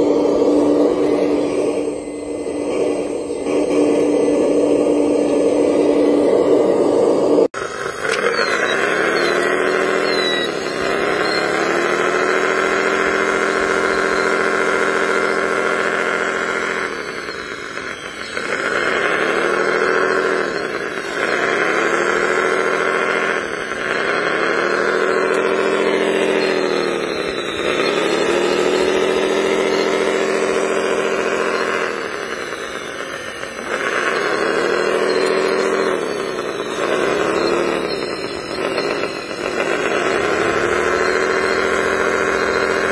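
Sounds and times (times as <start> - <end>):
electric motors whining: 0.0 - 42.9.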